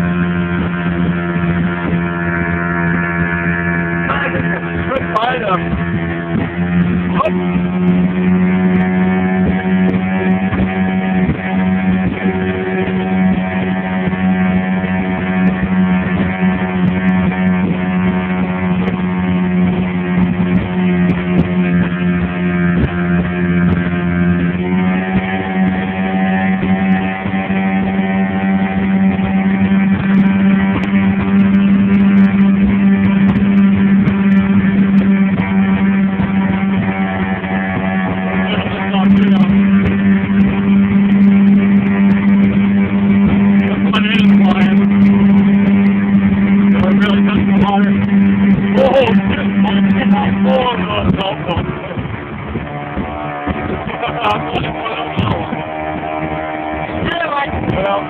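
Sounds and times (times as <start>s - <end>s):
boat engine drone: 0.0s - 58.0s.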